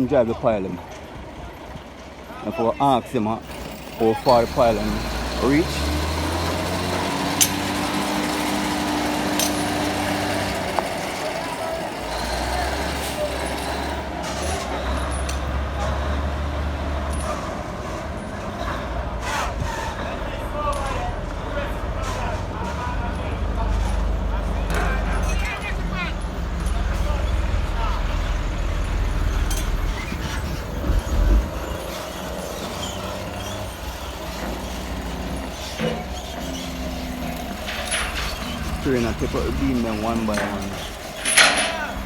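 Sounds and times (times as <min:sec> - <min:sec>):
construction site noise: 0:00.0 - 0:42.0
diesel engine droning: 0:00.0 - 0:42.0.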